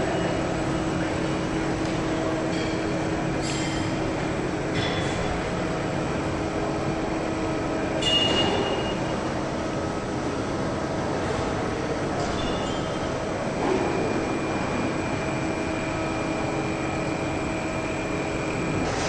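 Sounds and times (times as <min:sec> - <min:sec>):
factory machinery humming: 0:00.0 - 0:19.0.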